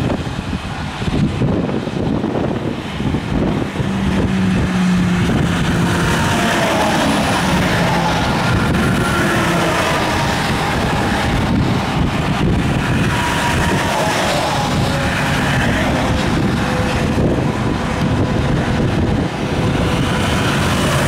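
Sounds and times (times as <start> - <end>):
background traffic: 0.0 - 21.0
trucks passing at speed: 0.0 - 21.0.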